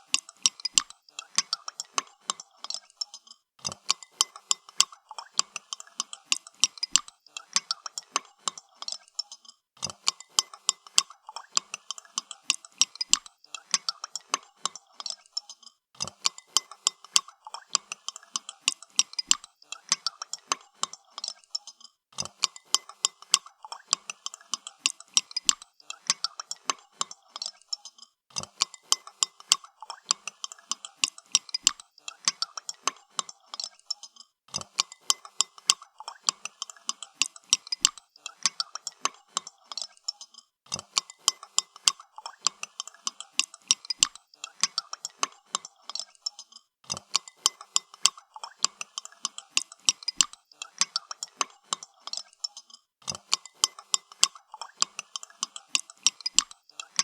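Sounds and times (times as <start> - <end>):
spoon stirring in a cup: 0.0 - 57.0.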